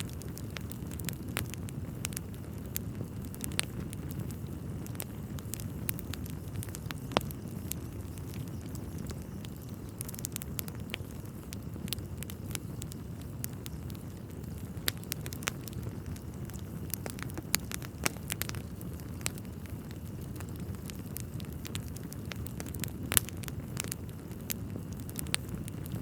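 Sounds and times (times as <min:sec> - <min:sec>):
logs crackling and popping: 0:00.0 - 0:26.0
low rumble of flame: 0:00.0 - 0:26.0.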